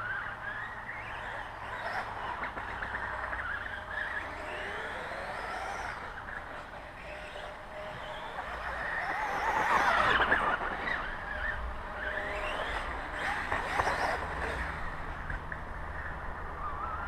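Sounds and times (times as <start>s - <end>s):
rc bike motor whining: 0.0s - 17.0s.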